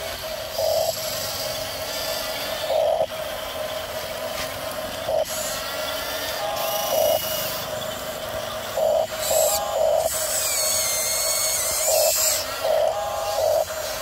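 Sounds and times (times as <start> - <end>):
toy bulldozer motors whining: 0.0 - 14.0.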